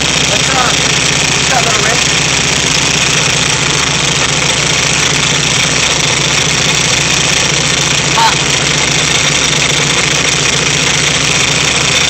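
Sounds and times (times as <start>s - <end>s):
air-cooled engine running: 0.0s - 12.0s.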